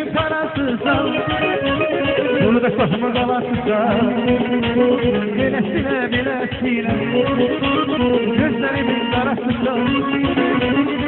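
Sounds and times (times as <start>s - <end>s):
plucked string instruments: 0.0s - 11.0s.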